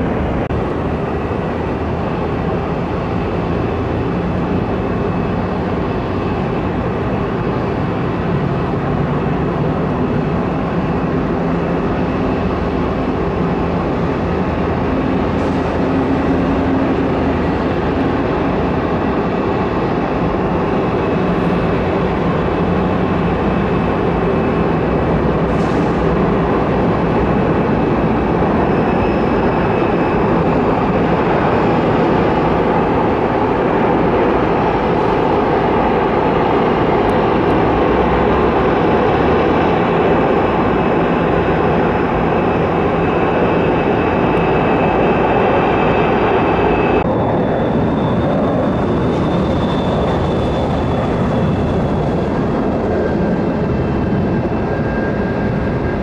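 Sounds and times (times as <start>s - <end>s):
jet engines with fan whine: 0.0s - 56.0s.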